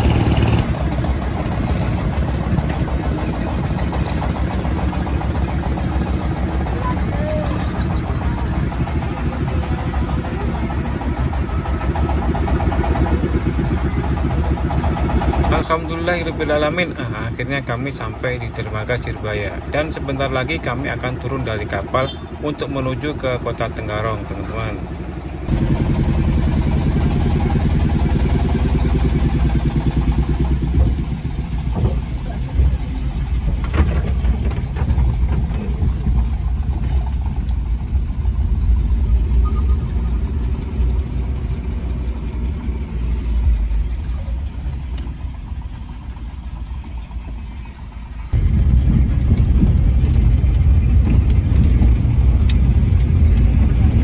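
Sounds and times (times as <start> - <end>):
car engine running: 0.0 - 54.0
road rumble: 0.0 - 54.0.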